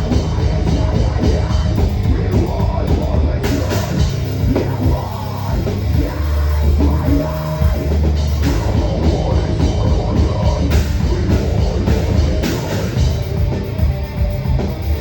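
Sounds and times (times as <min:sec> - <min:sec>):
drums and cymbals: 0:00.0 - 0:15.0
heavy metal band playing: 0:00.0 - 0:15.0.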